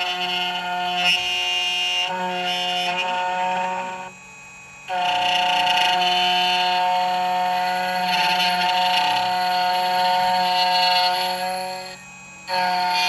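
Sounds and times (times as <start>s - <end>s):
key cutting machine whining: 0.0s - 13.0s.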